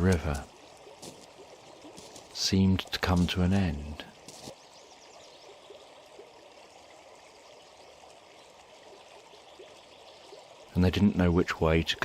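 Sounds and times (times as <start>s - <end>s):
faint flowing stream: 0.0s - 12.0s.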